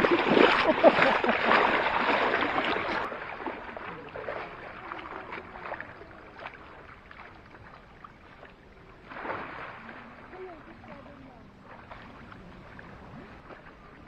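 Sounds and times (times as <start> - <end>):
gentle water wash: 0.0 - 14.0
water splashing around wading feet: 0.0 - 14.0.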